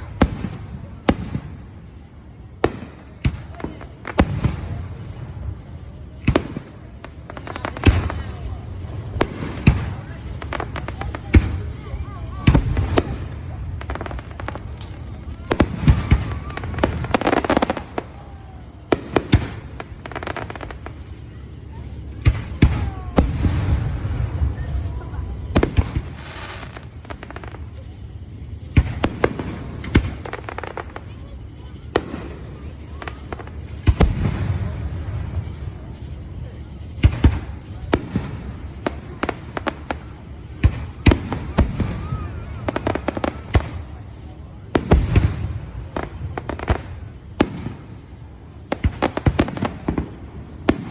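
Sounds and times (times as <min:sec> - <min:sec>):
fireworks bangs: 0:00.0 - 0:50.9
fireworks crackling: 0:00.0 - 0:50.9.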